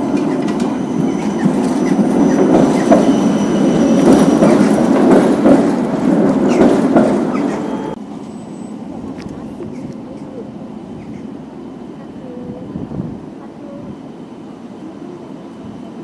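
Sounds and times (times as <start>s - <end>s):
tram wheels rolling on rails: 0.0s - 16.0s.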